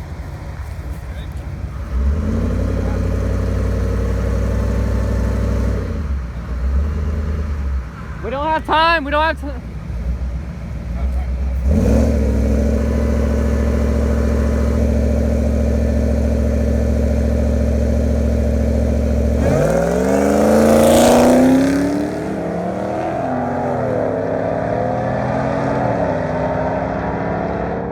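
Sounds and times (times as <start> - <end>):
pickup truck engines racing: 0.0 - 27.9.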